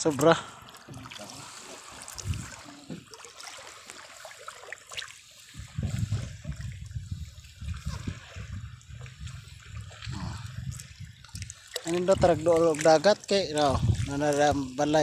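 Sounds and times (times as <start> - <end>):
seawater splashing and trickling: 0.0 - 15.0.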